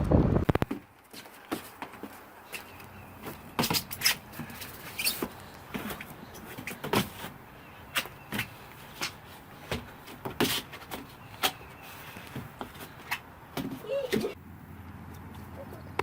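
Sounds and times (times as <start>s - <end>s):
trampoline springs creaking: 0.0s - 14.4s.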